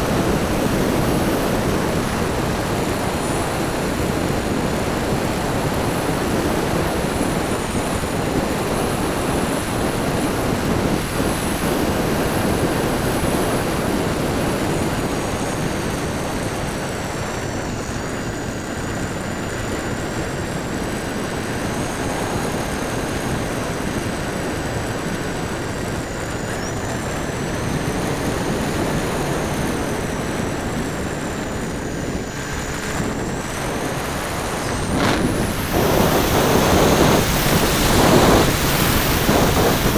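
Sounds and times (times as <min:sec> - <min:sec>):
high whine of propellers: 0:00.0 - 0:39.9
wind rushing over microphone: 0:00.0 - 0:39.9.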